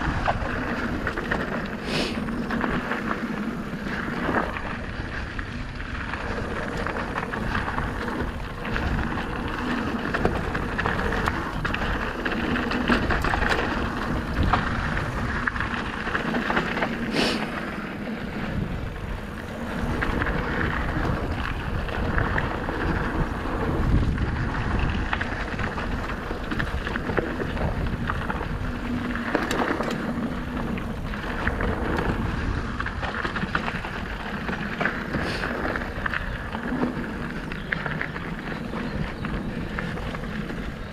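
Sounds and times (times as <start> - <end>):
bike rattling over bumps: 0.0 - 40.9
bike tyres rolling over dirt: 0.0 - 40.9.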